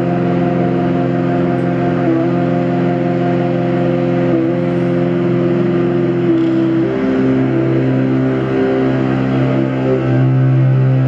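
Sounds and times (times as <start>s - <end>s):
drone music sustained tones: 0.0s - 11.0s.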